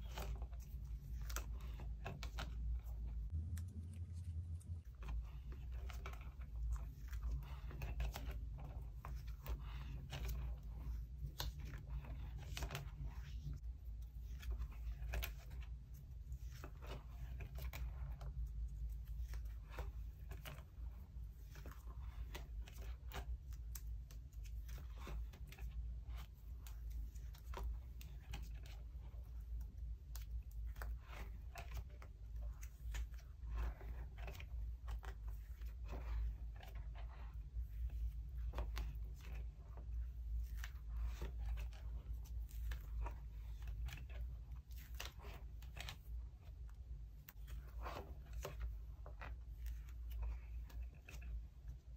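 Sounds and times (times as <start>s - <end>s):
steady low hum: 0.0s - 45.6s.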